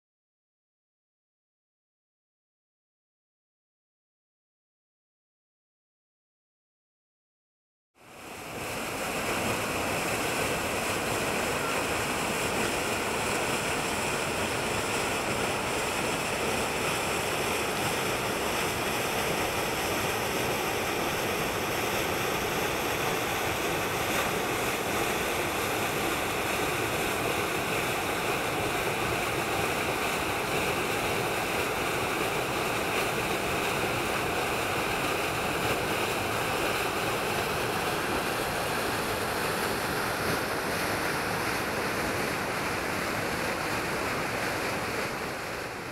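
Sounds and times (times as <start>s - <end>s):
water rushing over rock: 8.0s - 45.9s.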